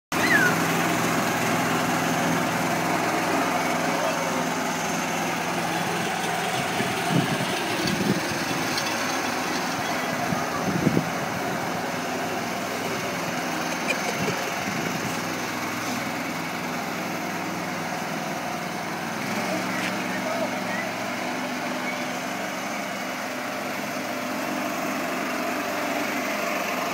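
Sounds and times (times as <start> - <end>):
ride-on lawnmower engine: 0.1 - 26.9.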